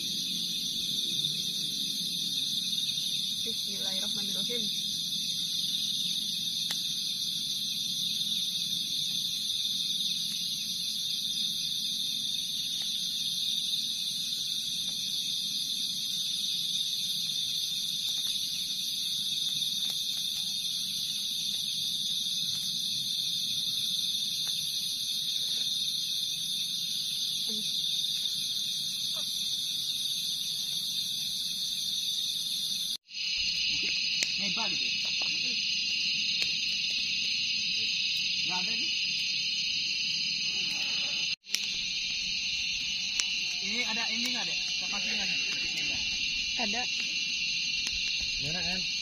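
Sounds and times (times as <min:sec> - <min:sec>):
campfire crackles: 0:00.0 - 0:49.0
night insects shrilling: 0:00.0 - 0:49.0.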